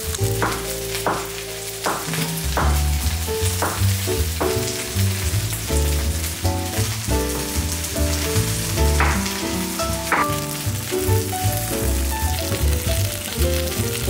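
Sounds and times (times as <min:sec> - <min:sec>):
background music with bass line: 0:00.0 - 0:14.0
oysters sizzling in oil: 0:00.0 - 0:14.0.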